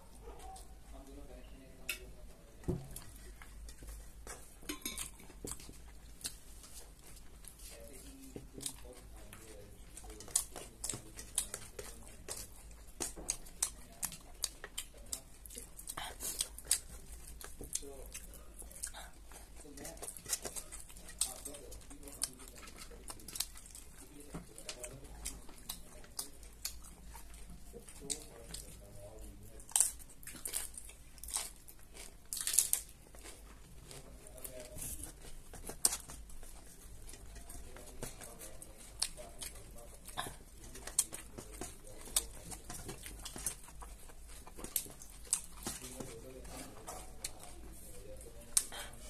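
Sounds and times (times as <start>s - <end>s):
crunching and chewing food: 0.0s - 49.0s.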